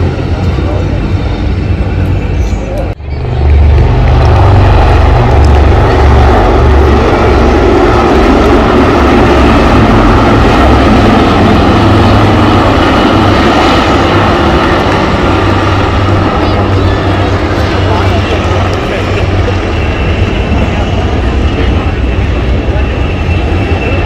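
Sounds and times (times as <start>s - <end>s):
helicopter rotor and engine noise: 0.0s - 24.0s.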